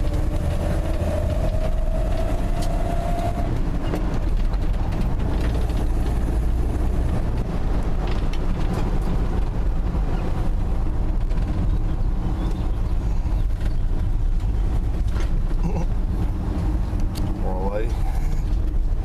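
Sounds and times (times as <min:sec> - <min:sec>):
pickup truck engine drone: 0:00.0 - 0:19.0
road noise: 0:00.0 - 0:19.0.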